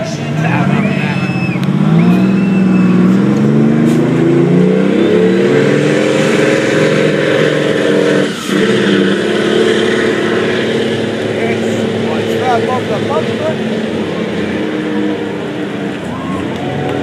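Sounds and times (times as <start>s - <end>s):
diesel truck engine at full power: 0.0s - 17.0s.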